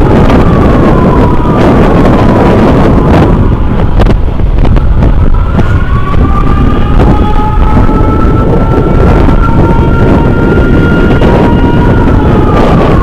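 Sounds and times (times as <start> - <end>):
emergency siren wailing: 0.0 - 13.0
wind buffeting microphone: 0.0 - 13.0.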